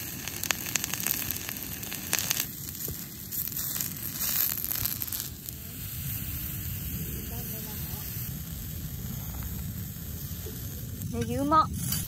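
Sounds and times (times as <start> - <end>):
campfire crackling: 0.0 - 12.0
onions sizzling on grill: 0.0 - 12.0.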